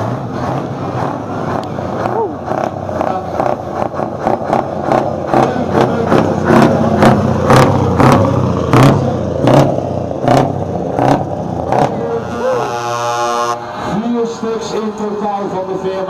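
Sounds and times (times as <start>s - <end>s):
diesel truck engine revving: 0.0s - 16.0s.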